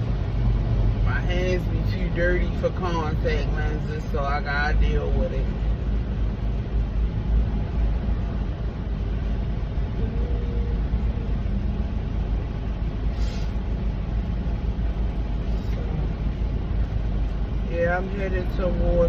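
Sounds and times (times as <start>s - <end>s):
road noise: 0.0s - 19.0s
truck engine rumble: 0.0s - 19.0s.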